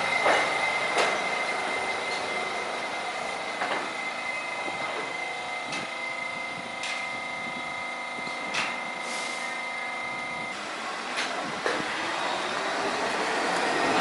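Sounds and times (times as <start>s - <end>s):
subway train equipment whining: 0.0s - 14.0s.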